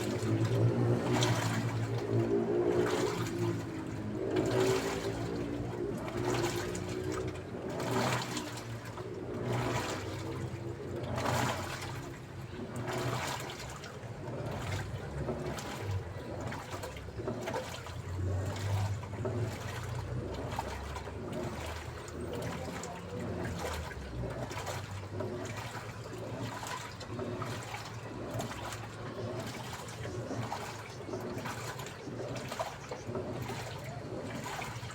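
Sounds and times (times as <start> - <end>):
low motor hum: 0.0 - 34.9
washing machine sloshing water: 0.0 - 34.9.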